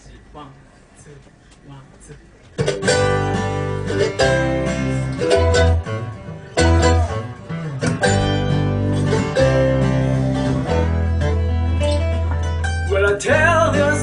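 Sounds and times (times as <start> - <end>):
banjo picking: 2.6 - 14.0
bass notes: 2.6 - 14.0
bluegrass band playing: 2.6 - 14.0.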